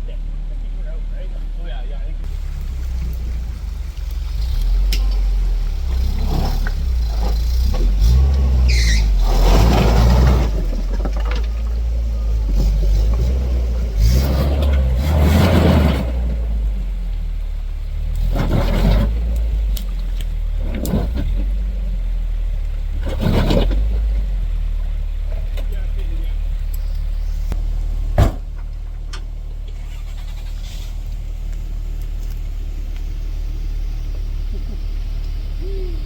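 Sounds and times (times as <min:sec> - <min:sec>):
truck engine rumbling and surging: 0:00.0 - 0:36.0.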